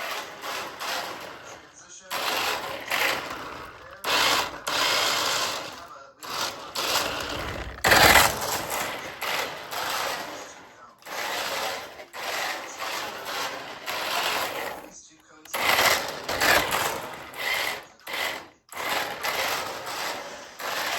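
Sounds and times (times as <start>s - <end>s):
toy car electric motor buzzing: 0.0s - 20.9s.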